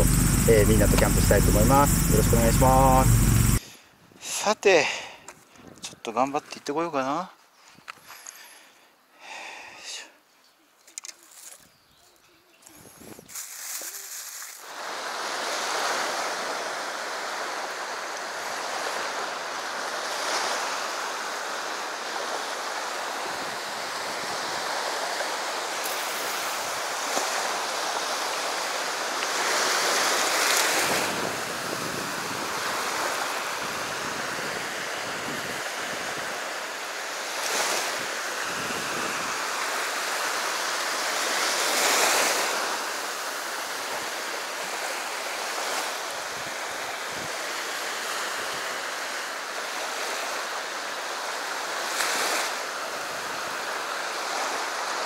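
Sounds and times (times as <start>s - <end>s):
waves breaking: 0.0s - 3.6s, 13.3s - 55.0s
waves washing on shore: 0.0s - 3.6s, 13.3s - 55.0s.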